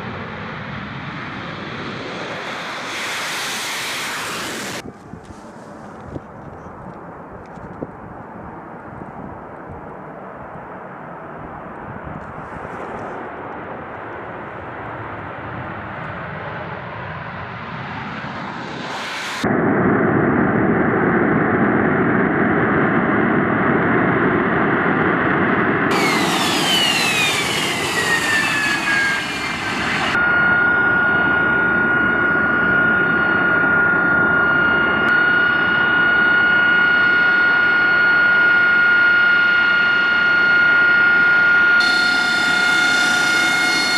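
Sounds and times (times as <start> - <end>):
jet engine rumble: 0.0 - 43.6
high turbine whine: 0.0 - 43.9.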